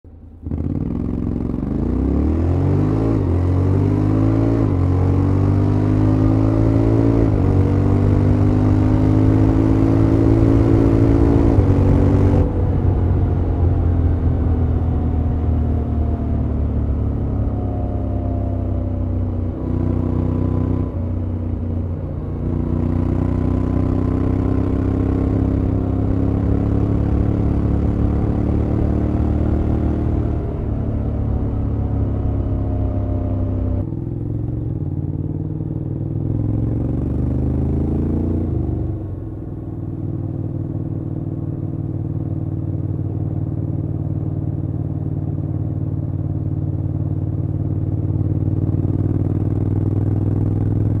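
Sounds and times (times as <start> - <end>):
motorcycle engine accelerating: 0.1 - 51.0.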